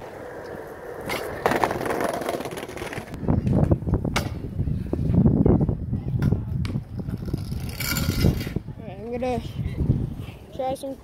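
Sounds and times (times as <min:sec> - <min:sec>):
scooter wheels rolling on concrete: 0:00.0 - 0:10.9.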